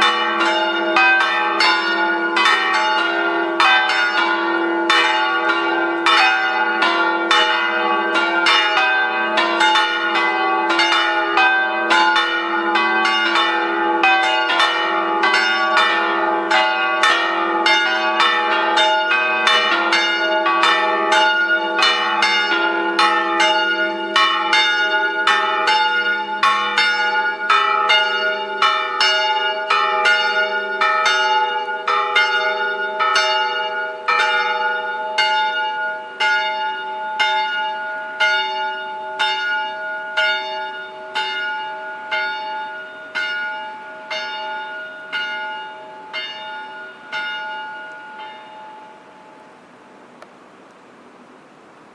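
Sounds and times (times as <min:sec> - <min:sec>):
church bells ringing: 0:00.0 - 0:50.1.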